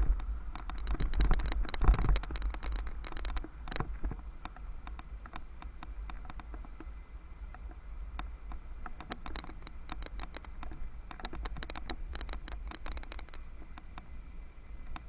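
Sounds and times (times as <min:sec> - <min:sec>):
bicycle clicking and rattling: 0:00.0 - 0:06.9, 0:07.6 - 0:14.1.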